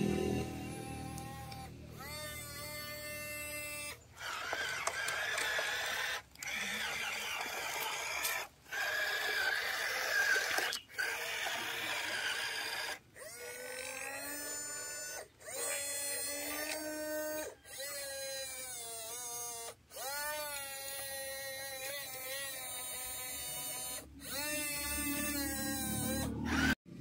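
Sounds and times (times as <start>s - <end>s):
toy motors and gears whirring: 0.0s - 26.8s.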